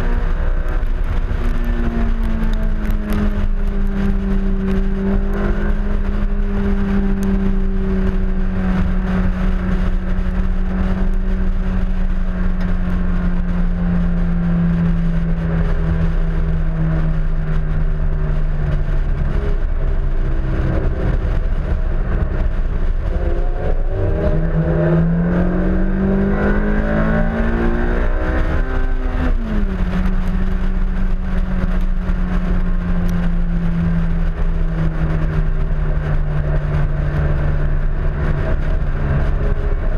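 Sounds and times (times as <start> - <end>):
car engine running hard: 0.0 - 39.9
wind rushing on microphone: 0.0 - 39.9.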